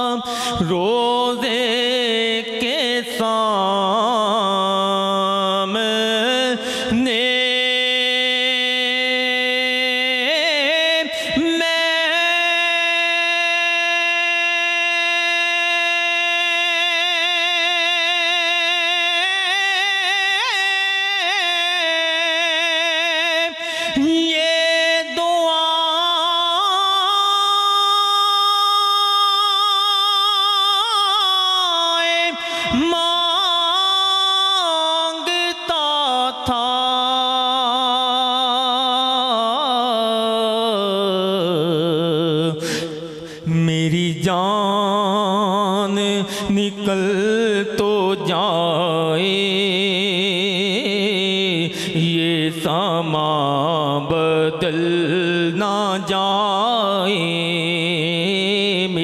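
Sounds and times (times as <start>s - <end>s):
man singing unaccompanied: 0.0s - 59.0s.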